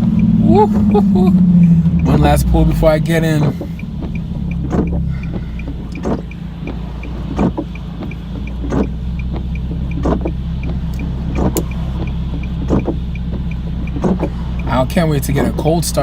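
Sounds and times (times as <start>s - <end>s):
car exhaust droning: 0.0s - 16.0s
quick regular ticking: 0.0s - 16.0s.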